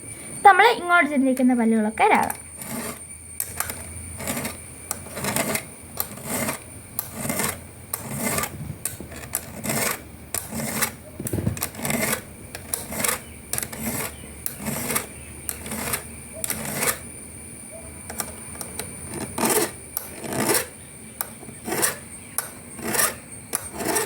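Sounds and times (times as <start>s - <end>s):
hand file rasping on chain: 2.2s - 17.1s, 18.1s - 20.8s, 21.4s - 24.0s.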